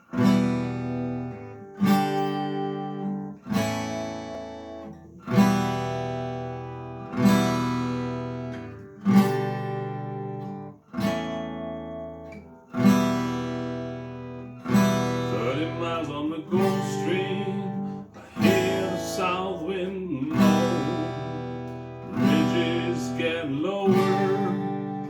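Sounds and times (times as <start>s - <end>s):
acoustic guitar strumming chords: 0.0s - 25.0s.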